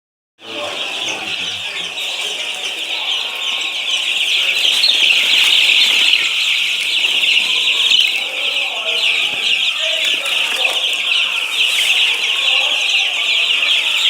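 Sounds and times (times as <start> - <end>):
flock of chickens calling: 0.4 - 14.0.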